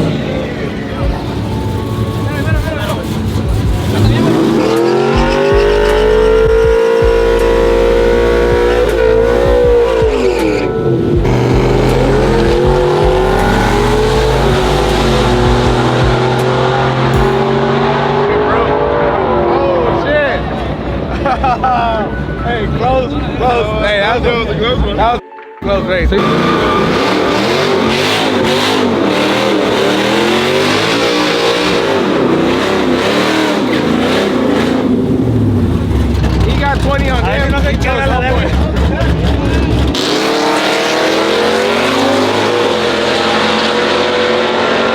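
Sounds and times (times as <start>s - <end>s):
truck engines at full throttle: 0.0s - 25.1s, 26.1s - 44.9s.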